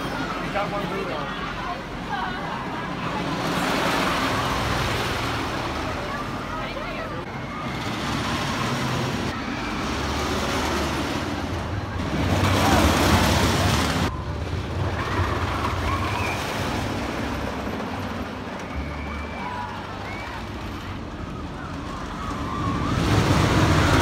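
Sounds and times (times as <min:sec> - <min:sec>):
roller coaster rattling past: 0:00.0 - 0:24.0.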